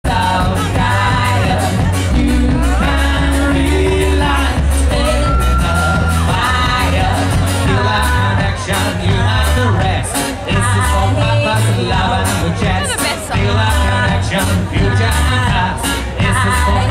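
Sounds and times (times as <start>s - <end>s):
bass: 0.0s - 16.9s
drums: 0.0s - 16.9s
guitars: 0.0s - 16.9s
woman singing: 0.1s - 8.6s, 10.5s - 16.9s.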